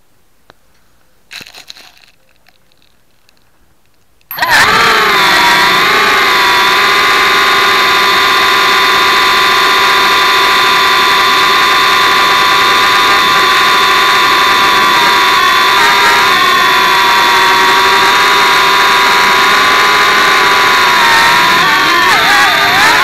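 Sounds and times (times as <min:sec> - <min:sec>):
drone propellers whining: 0:04.3 - 0:23.0.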